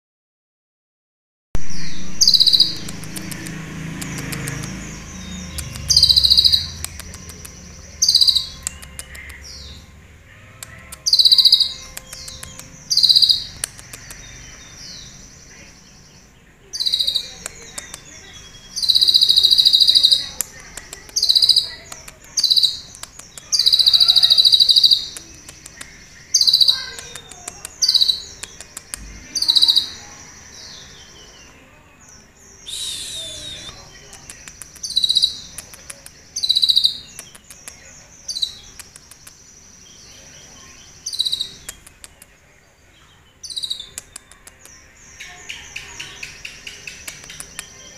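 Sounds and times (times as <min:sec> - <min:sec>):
bird singing high-pitched song: 0:01.6 - 0:47.9.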